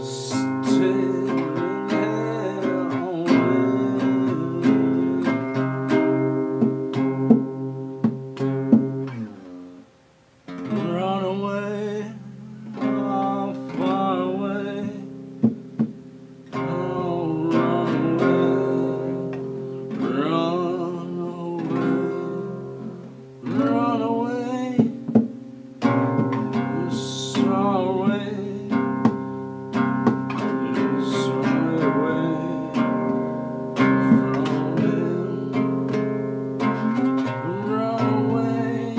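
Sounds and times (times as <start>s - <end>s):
man singing: 0.0s - 8.3s, 10.5s - 15.6s, 16.5s - 38.9s
acoustic guitar: 0.0s - 38.9s.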